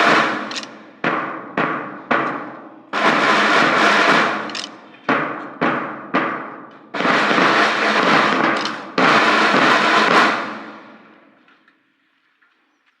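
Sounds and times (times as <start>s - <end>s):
drum strike: 0.0s - 10.7s.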